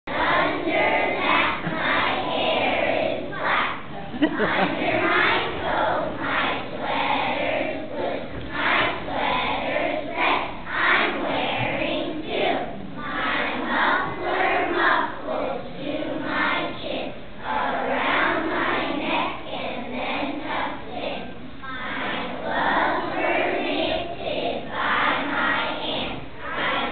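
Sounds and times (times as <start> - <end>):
children's choir singing: 0.1 - 26.9.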